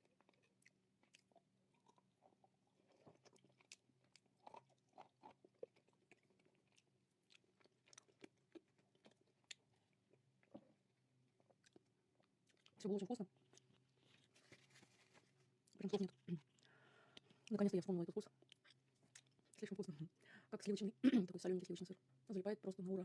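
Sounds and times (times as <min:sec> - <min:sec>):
chewing and crunching clay: 0:00.0 - 0:20.9.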